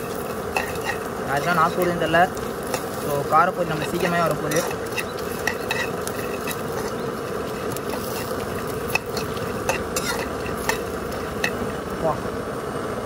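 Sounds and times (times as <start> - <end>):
frying sizzle: 0.0 - 12.5.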